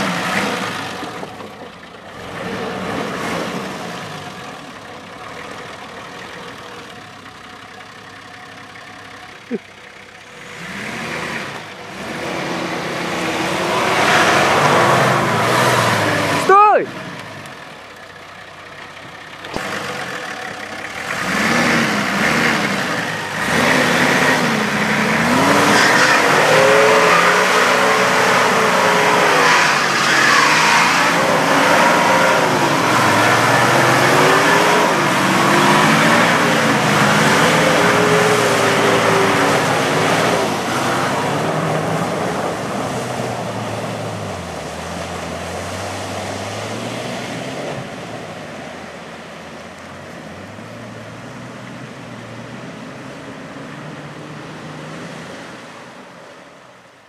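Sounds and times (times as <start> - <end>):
tyres churning through mud: 0.0 - 7.0, 9.2 - 49.0
diesel engine revving: 0.0 - 55.9.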